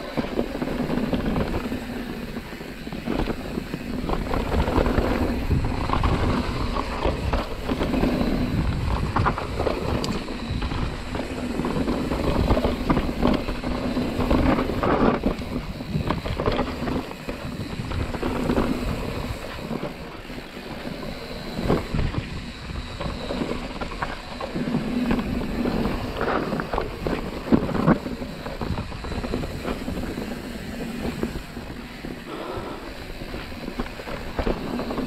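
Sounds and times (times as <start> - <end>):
bike knocking and rattling: 0.0 - 35.0
bike tyres rolling on dirt: 0.0 - 35.0
wind on microphone: 0.0 - 35.0.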